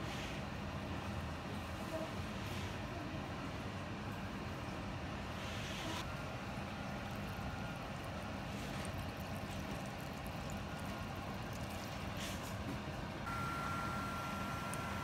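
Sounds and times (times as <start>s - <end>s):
high whine of pan boiling: 0.0s - 15.0s.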